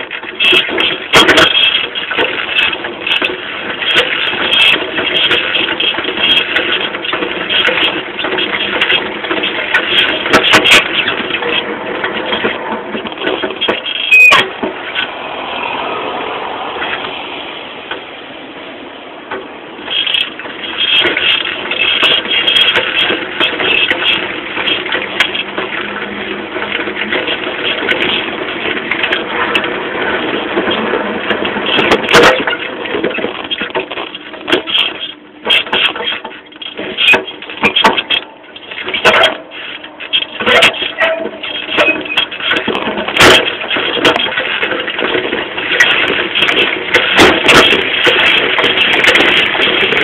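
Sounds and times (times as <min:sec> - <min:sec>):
suspension knocks and clicks: 0:00.0 - 0:15.1, 0:19.3 - 0:50.0
bicycle rattling over rough ground: 0:00.0 - 0:50.0.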